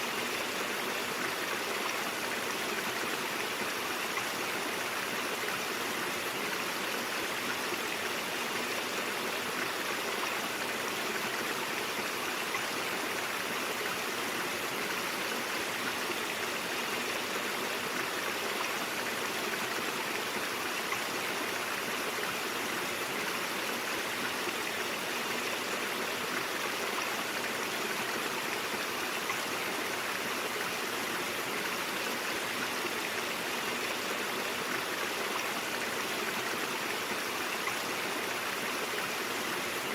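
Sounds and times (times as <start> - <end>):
stream burbling over rocks: 0.0 - 39.9.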